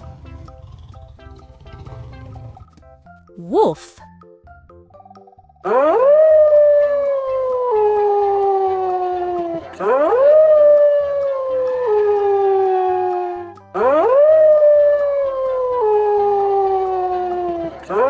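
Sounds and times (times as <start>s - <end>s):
wolf howling: 0.0s - 2.6s, 5.7s - 18.0s.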